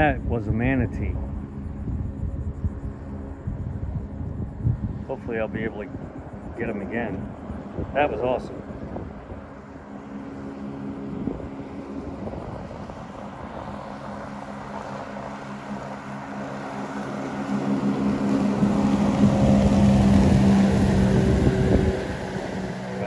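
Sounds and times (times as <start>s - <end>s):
motorboat engine droning: 0.0s - 23.0s.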